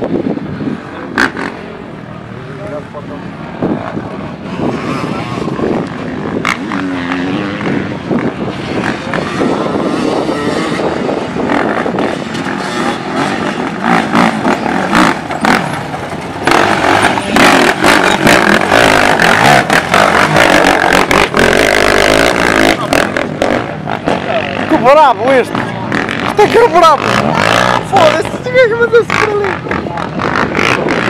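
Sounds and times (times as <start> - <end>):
quad engine revving: 1.1 - 1.8, 2.7 - 31.0.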